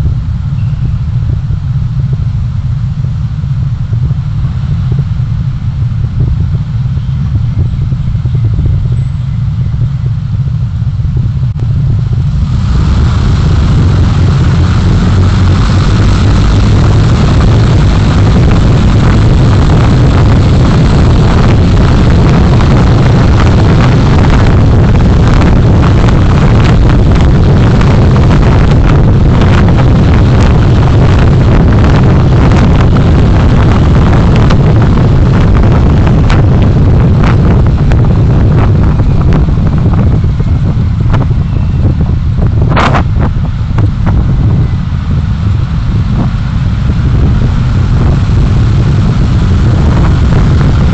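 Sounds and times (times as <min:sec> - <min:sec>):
engine and road noise: 0:00.0 - 0:50.9
wind rushing on microphone: 0:00.0 - 0:50.9.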